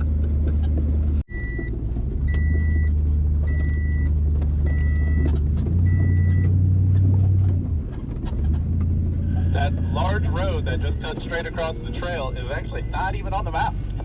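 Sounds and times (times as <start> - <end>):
truck engine drone: 0.0 - 14.0.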